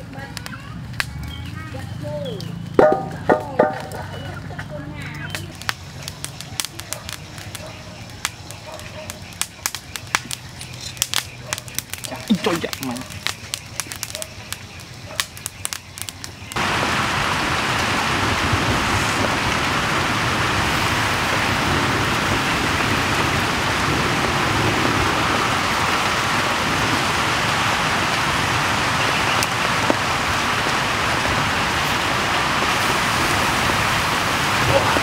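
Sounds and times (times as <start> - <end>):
chicken sizzling over coals: 0.0 - 35.0.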